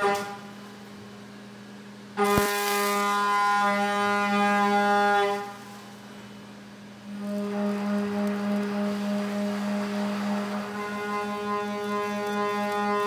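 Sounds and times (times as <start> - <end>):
spindle whine: 2.1 - 13.0.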